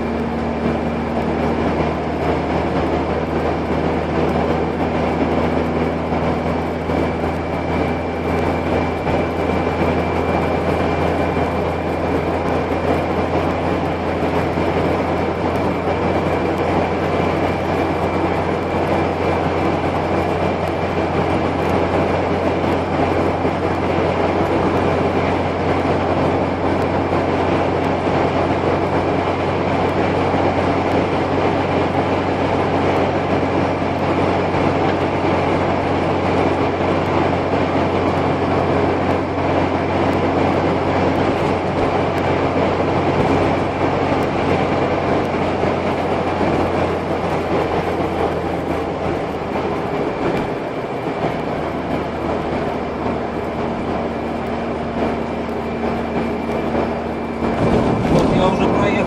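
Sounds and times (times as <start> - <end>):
car engine drone: 0.0 - 59.0
tyre rumble on road: 0.0 - 59.0.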